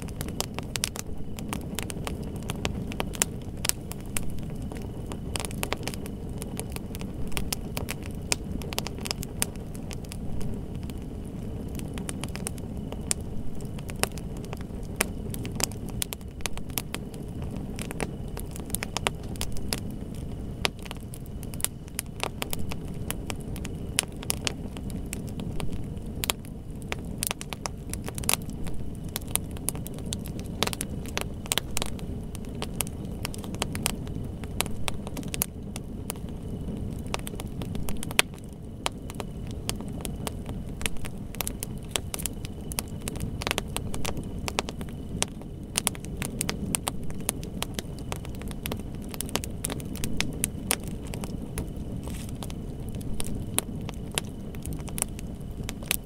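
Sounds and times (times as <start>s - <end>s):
low fire rumble: 0.0s - 56.0s
wood fire crackling: 0.0s - 56.0s.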